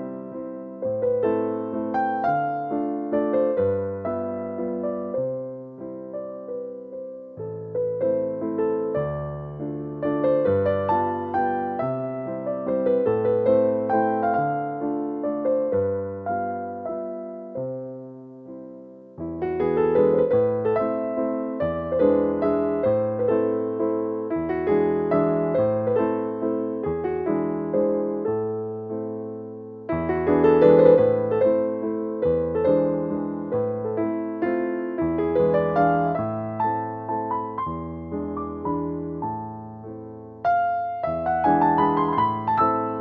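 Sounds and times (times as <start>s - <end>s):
gentle piano melody: 0.0s - 43.0s.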